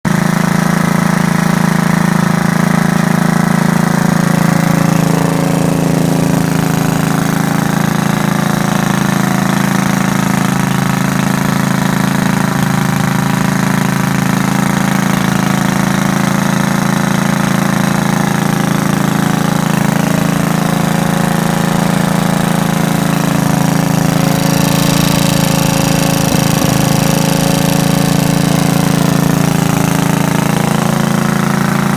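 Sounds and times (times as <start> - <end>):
single-cylinder engine running: 0.0 - 31.9.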